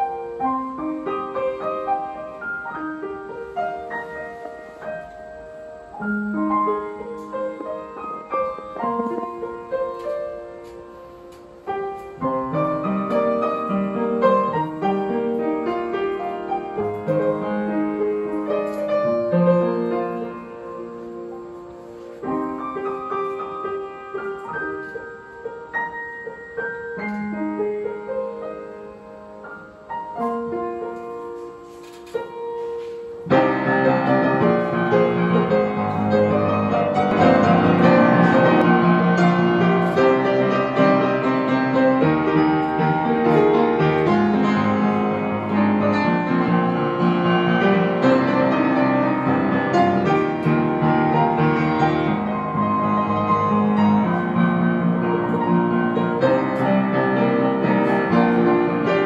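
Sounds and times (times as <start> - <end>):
upright piano playing: 0.0 - 59.0.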